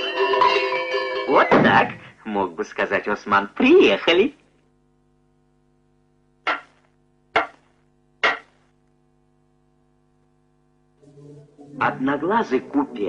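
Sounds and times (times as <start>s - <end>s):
steady low hum: 1.5s - 13.0s.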